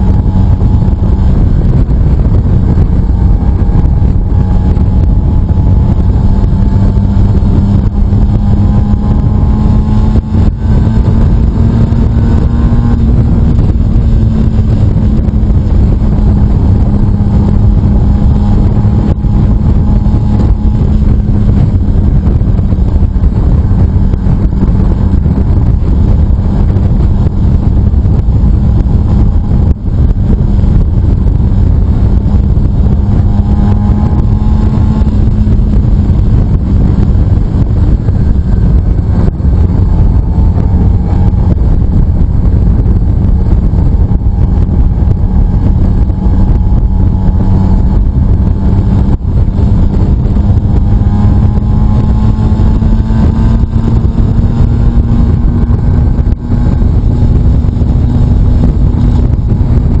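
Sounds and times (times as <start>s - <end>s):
motorcycle engine cruising: 0.0s - 60.0s
wind buffeting microphone: 0.0s - 60.0s.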